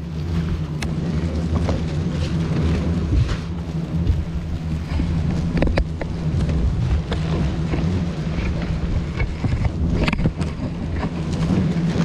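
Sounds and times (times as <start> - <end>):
low drone: 0.0 - 12.0.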